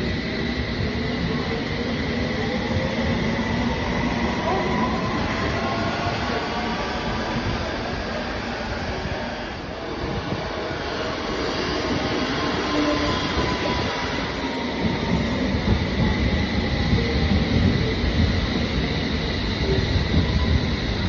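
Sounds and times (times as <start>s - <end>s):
train passing close by: 0.0s - 21.0s
train wheels rumbling on rails: 0.0s - 21.0s.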